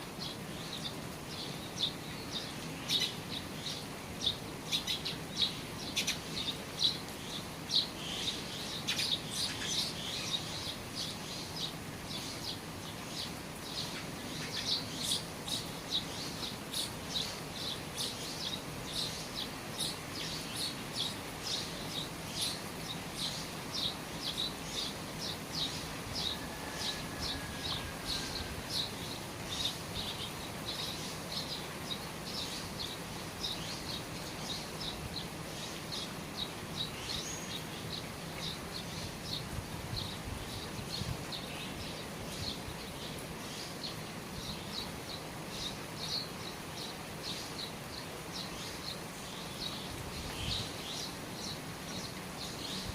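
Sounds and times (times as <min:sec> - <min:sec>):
rain falling at the eaves: 0:00.0 - 0:52.9
small birds chirping: 0:00.0 - 0:52.9.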